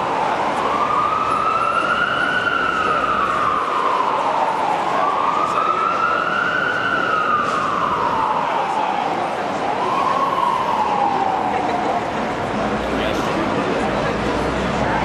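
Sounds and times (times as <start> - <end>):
emergency siren wailing: 0.0 - 12.6
crowd noise: 0.0 - 15.0.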